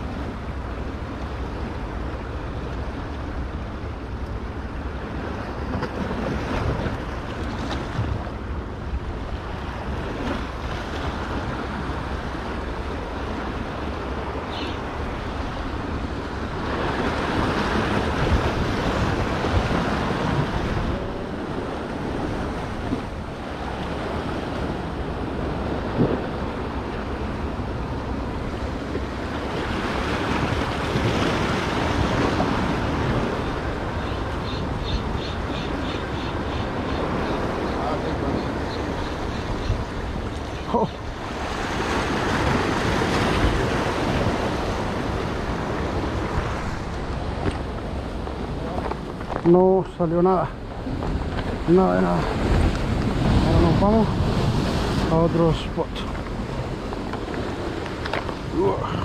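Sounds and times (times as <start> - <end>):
waves washing against rocks: 0.0 - 34.8, 36.7 - 59.0
wind buffeting microphone: 0.0 - 59.0.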